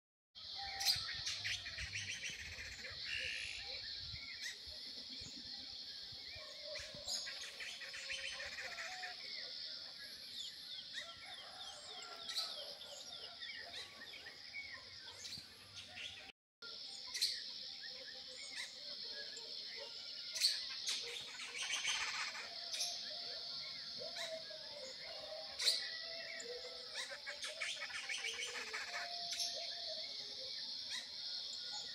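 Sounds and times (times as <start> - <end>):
birds chirping and trilling: 0.4 - 31.9.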